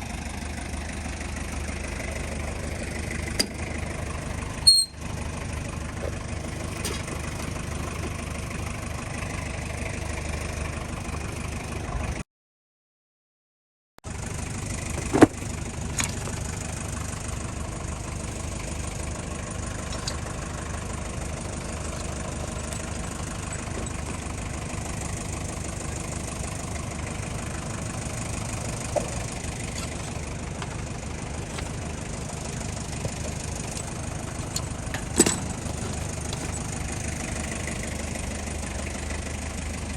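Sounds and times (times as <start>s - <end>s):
diesel engine idling: 0.0s - 12.2s, 14.1s - 39.9s.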